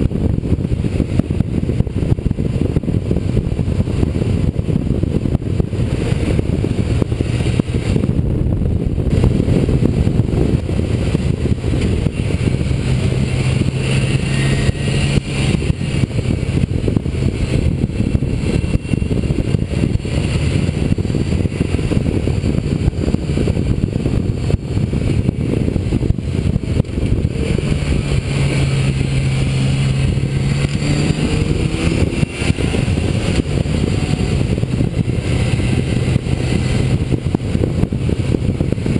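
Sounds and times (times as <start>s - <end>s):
motorcycle engine: 0.0s - 38.9s
wind rumble on microphone: 0.0s - 38.9s.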